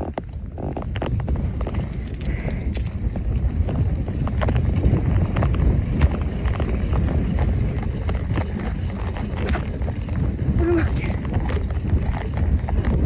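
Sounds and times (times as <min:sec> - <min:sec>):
bicycle clicks and rattles: 0:00.0 - 0:13.0
wind buffeting microphone: 0:00.0 - 0:13.0.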